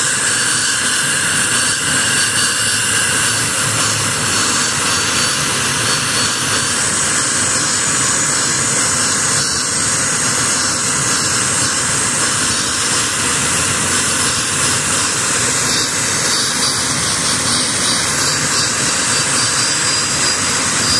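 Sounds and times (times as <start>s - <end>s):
high engine whine: 0.0s - 20.9s
turbojet engine roaring: 0.0s - 20.9s.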